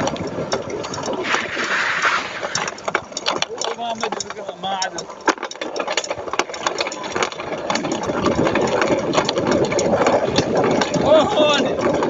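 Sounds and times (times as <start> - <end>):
bike rattling over dirt trail: 0.0 - 12.0.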